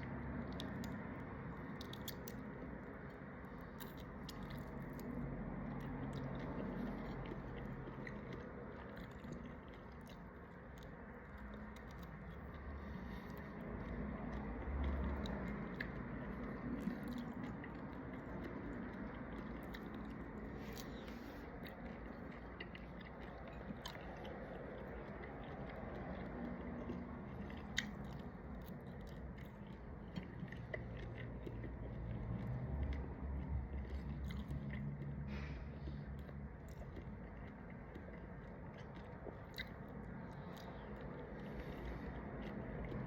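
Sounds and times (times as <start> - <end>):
low background hum: 0.0 - 43.0
person chewing: 0.0 - 43.0
wet mouth sounds: 0.0 - 43.0.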